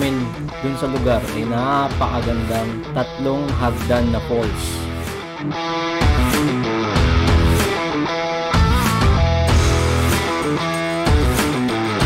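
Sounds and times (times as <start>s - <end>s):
bass: 0.0s - 12.0s
guitar: 0.0s - 12.0s.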